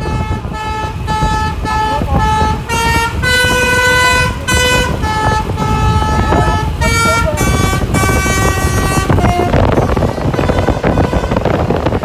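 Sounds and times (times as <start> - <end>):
low rumble: 0.0 - 12.0
multi-tone bus horn tune: 0.0 - 12.0.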